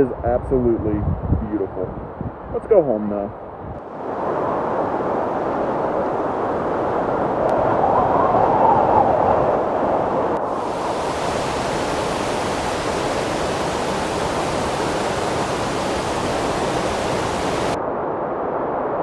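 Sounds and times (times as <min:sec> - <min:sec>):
blizzard wind rushing: 0:03.7 - 0:19.0.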